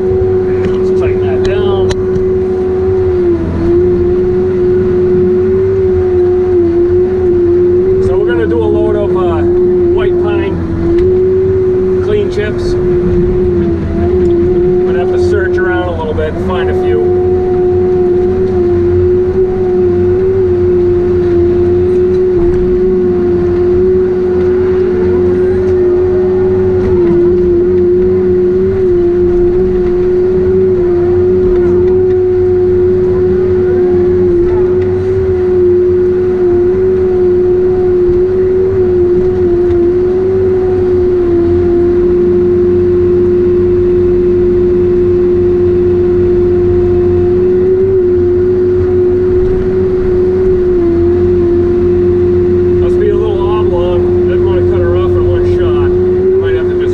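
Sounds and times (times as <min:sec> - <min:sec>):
diesel engine drone: 0:00.0 - 0:56.9
high mechanical whine: 0:00.0 - 0:56.9.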